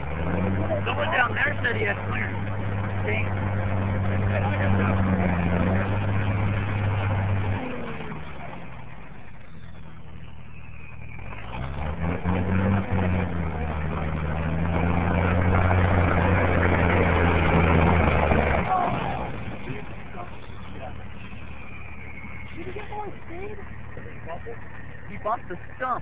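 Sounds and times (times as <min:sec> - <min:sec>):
truck engine pulling uphill: 0:00.0 - 0:26.0.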